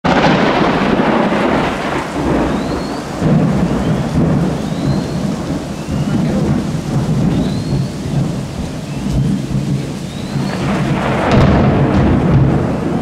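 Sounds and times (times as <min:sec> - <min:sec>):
thunder rumbling: 0:00.0 - 0:13.0
steady rain: 0:00.1 - 0:13.0.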